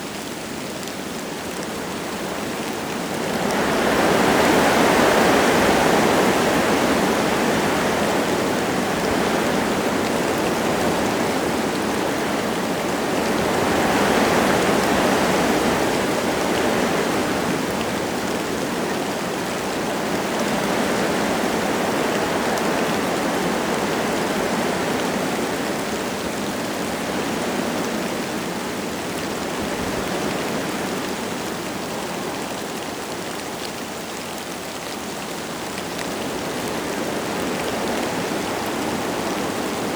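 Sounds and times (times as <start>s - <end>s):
light rain falling: 0.0s - 39.9s
wind gusting through trees: 0.0s - 39.9s.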